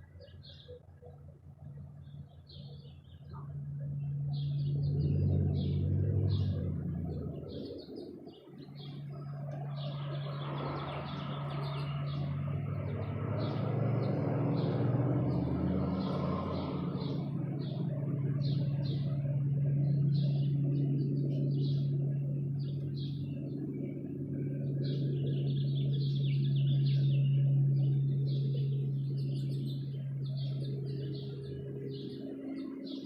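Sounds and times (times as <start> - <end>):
small birds chirping: 0.0 - 33.0
steady low hum: 0.0 - 33.0.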